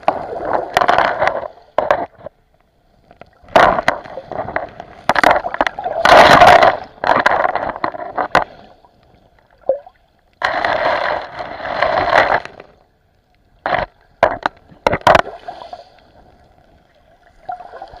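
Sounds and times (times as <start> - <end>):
water sloshing and gurgling: 0.0 - 18.0.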